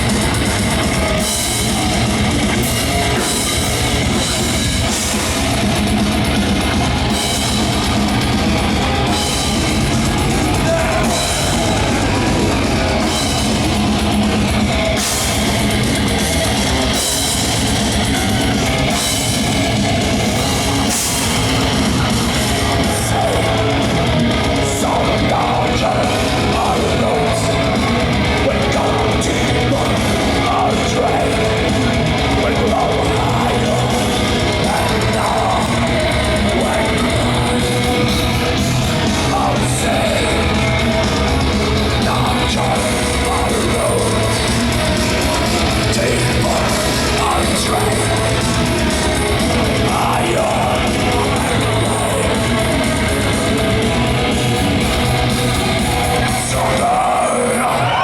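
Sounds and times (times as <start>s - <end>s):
bass guitar: 0.0s - 58.0s
distorted guitars: 0.0s - 58.0s
drums: 0.0s - 58.0s
harsh shouted vocal: 0.0s - 58.0s.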